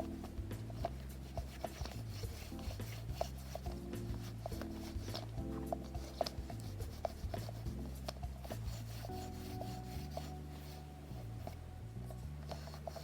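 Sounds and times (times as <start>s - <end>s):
background music with low notes: 0.0s - 13.0s
lint roller rubbing fabric: 0.0s - 13.0s.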